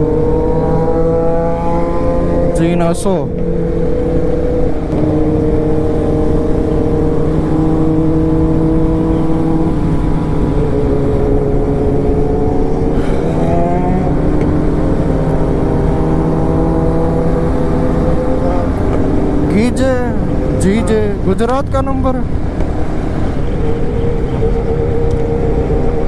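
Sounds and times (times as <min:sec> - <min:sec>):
motorcycle engine running: 0:00.0 - 0:26.0
wind noise: 0:00.0 - 0:26.0.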